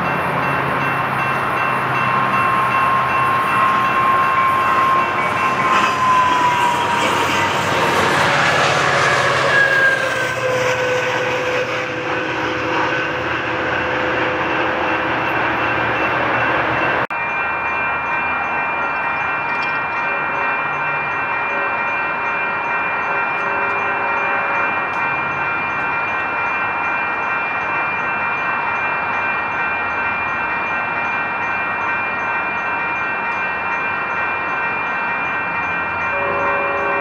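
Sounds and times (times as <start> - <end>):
train whining tones: 0.0 - 31.1, 31.8 - 37.0
train wheels rumbling on rail: 0.0 - 37.0.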